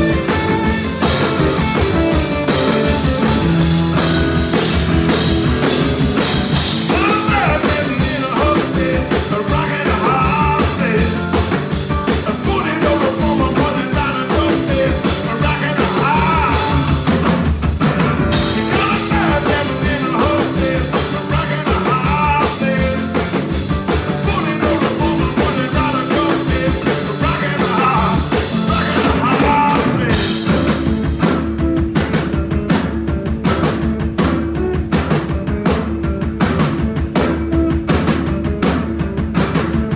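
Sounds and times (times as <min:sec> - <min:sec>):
bass guitar: 0:00.0 - 0:39.9
drum beat: 0:00.0 - 0:39.9
electric guitar lines: 0:00.0 - 0:39.9.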